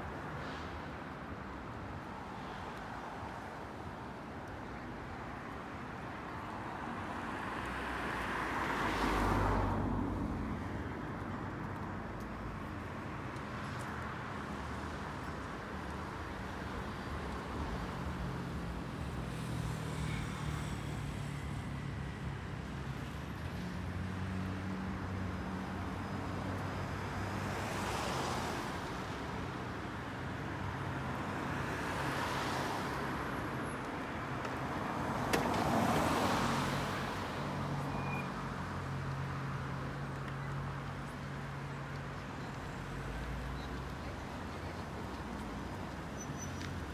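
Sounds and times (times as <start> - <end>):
cars passing by: 0.0 - 46.9.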